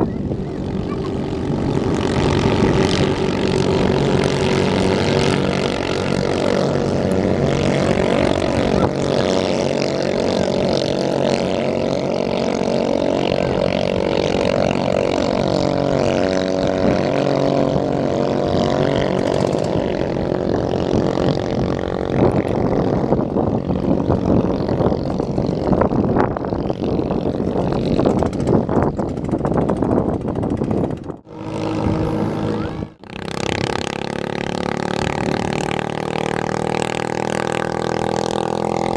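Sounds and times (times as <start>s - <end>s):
racing boat engines at high revs: 0.0s - 38.9s.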